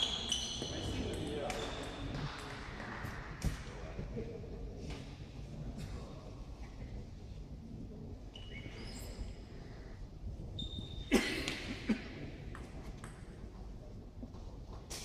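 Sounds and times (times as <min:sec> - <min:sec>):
sports hall background: 0:00.0 - 0:15.0.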